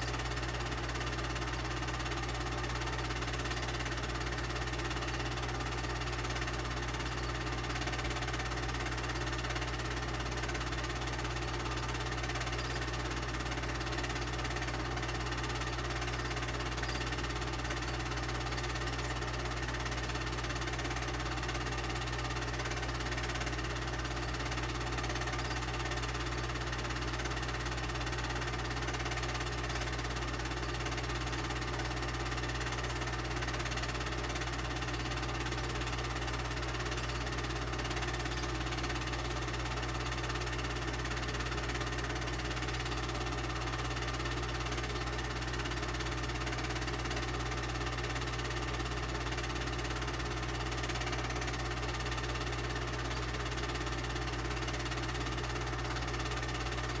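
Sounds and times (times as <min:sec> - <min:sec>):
film projector whirring: 0:00.0 - 0:57.0.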